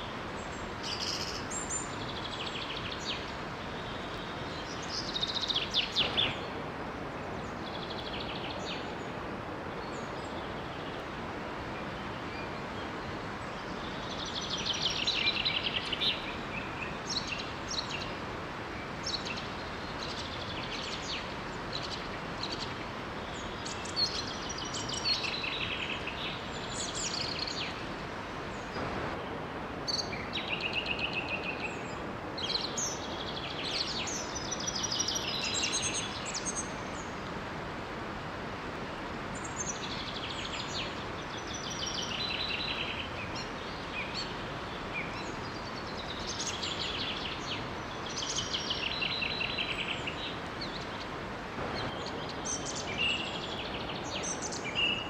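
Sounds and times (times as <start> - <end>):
small waterfall rushing: 0.0 - 55.0
songbirds singing: 0.0 - 55.0.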